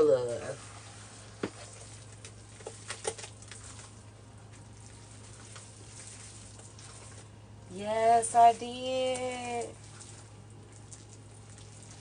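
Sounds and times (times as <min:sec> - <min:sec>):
faint low hum: 0:00.0 - 0:12.0
hands squishing wet paste: 0:00.6 - 0:07.4, 0:09.1 - 0:12.0.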